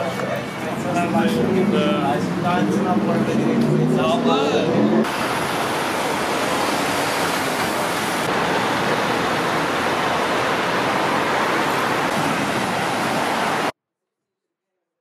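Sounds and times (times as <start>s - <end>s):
steady rushing noise: 0.6s - 13.7s.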